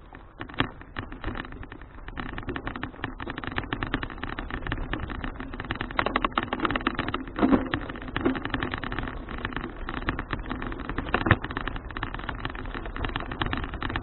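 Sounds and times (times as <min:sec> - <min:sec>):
bicycle rattling: 0:00.0 - 0:14.0
wind and road rush: 0:00.0 - 0:14.0.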